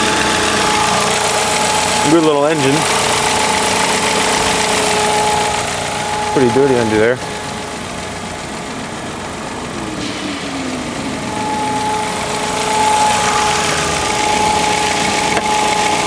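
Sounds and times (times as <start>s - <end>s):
car engine idling: 0.0s - 16.0s
high whine: 0.0s - 16.0s.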